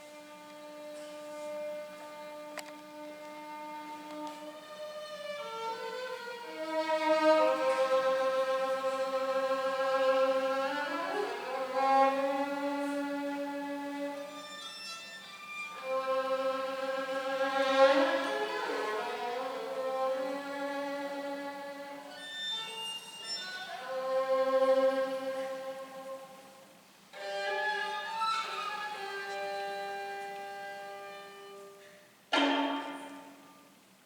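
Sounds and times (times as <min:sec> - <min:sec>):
slow bowed string melody: 0:00.0 - 0:33.8.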